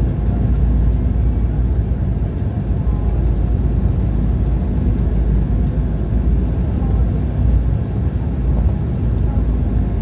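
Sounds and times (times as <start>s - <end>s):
jet cabin rumble: 0.0s - 10.0s.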